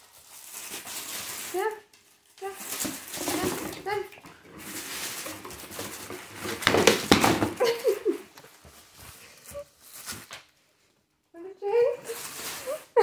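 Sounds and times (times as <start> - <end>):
plastic and cardboard rustling: 0.0 - 11.0, 11.8 - 13.0.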